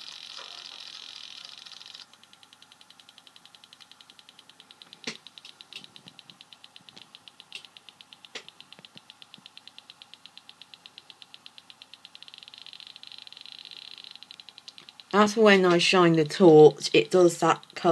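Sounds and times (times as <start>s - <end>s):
high buzzy pulsing tone: 0.0s - 17.9s
sharp clicks: 1.2s - 17.9s.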